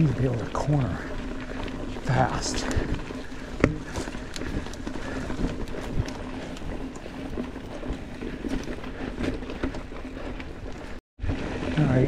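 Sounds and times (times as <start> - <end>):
bike rattling and knocking: 0.0 - 12.0
bike tyres rumbling on dirt: 0.0 - 12.0.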